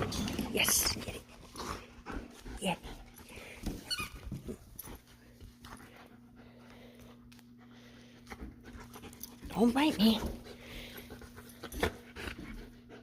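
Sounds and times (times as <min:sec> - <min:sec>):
faint steady hum: 0:00.0 - 0:13.0
puppy scuffling and panting: 0:00.0 - 0:13.0.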